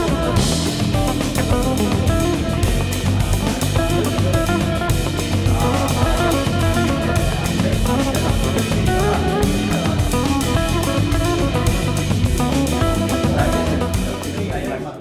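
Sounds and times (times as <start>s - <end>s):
bass: 0.0s - 15.0s
drum-kit beat: 0.0s - 15.0s
electric guitar: 0.0s - 15.0s.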